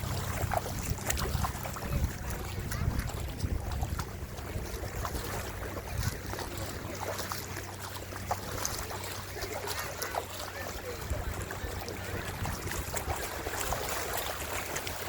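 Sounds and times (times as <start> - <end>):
small clicks and splashes: 0.0 - 15.0
wind buffeting microphone: 0.0 - 15.0.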